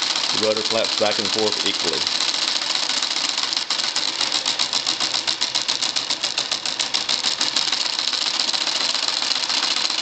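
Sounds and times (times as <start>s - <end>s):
rudder actuator clicking rapidly: 0.0s - 10.0s.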